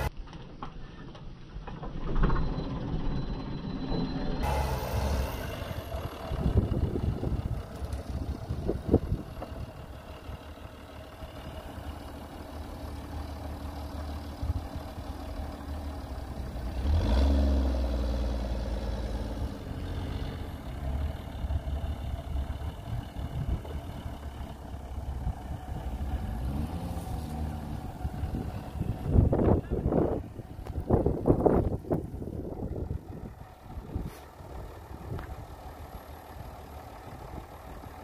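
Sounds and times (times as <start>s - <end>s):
engine rumbling and revving: 1.6s - 38.0s.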